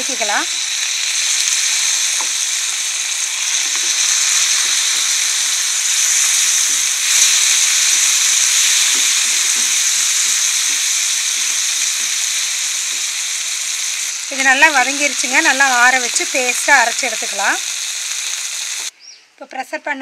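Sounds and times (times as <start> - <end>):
food sizzling in hot oil: 0.0 - 18.9.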